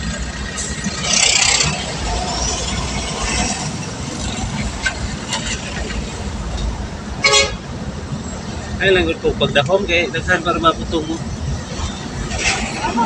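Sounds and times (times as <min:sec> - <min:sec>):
loud rush of noise: 0:00.0 - 0:13.0
motorcycle engine and road rumble: 0:00.0 - 0:13.0.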